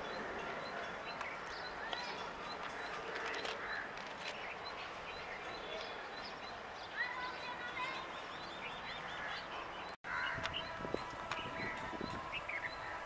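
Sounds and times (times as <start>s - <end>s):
bird calls and chirps: 0.0s - 13.0s.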